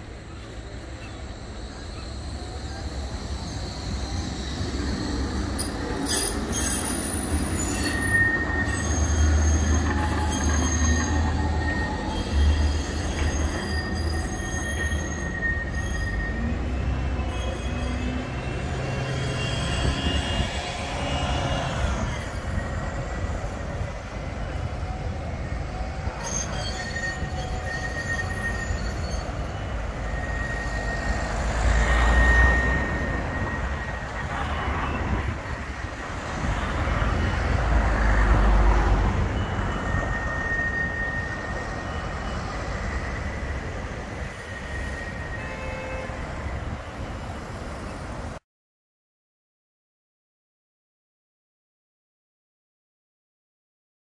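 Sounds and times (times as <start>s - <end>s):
tram wheels squealing: 0.0s - 48.4s.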